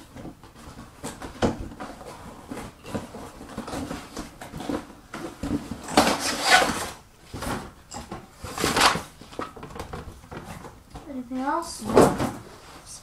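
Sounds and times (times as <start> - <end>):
packaging rustling and scraping: 0.1 - 10.8.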